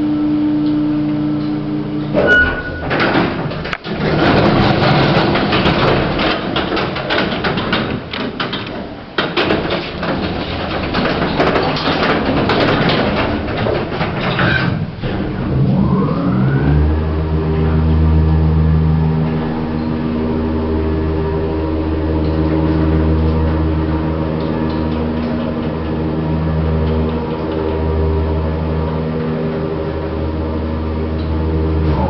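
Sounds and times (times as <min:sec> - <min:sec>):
lift machinery humming: 0:00.0 - 0:32.0.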